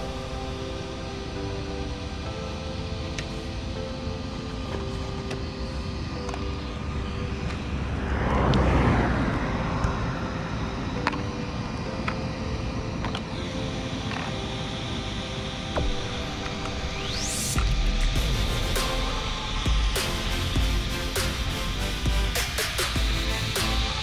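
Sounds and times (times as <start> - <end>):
background music with held notes: 0.0 - 24.0
rushing noise: 0.0 - 24.0.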